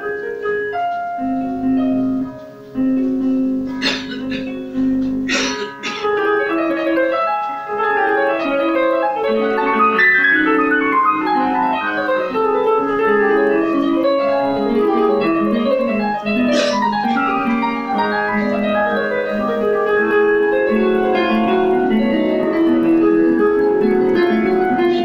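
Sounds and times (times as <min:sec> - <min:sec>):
loud piano chord: 0:00.0 - 0:25.0
piano playing quick notes: 0:00.0 - 0:25.0.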